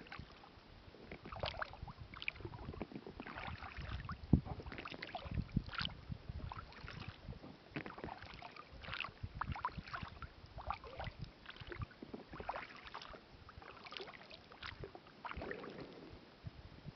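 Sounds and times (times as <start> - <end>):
paddle splashes and drips: 0.0 - 16.1.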